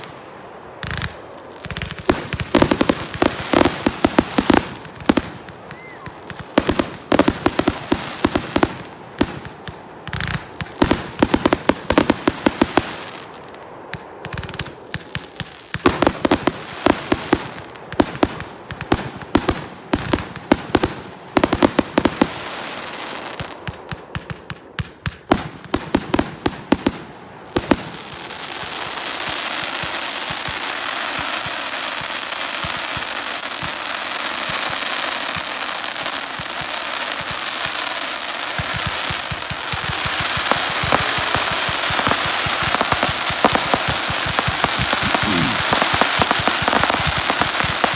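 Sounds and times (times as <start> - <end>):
fireworks bangs and cracks: 0.0 - 47.9
fireworks crackling hiss: 0.0 - 47.9.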